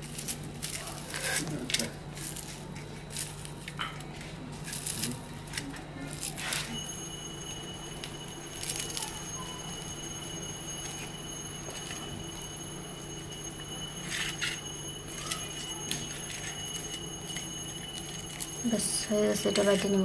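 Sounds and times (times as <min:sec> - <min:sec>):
charred leaves crackling by hand: 0:00.0 - 0:20.0
steady hum and high whine: 0:00.0 - 0:20.0.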